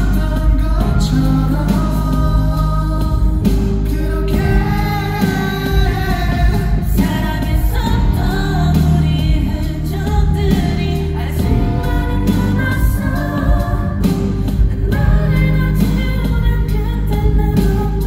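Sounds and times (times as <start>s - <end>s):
amplified band with steady bass: 0.0s - 18.0s
person singing pop ballad: 0.0s - 18.0s.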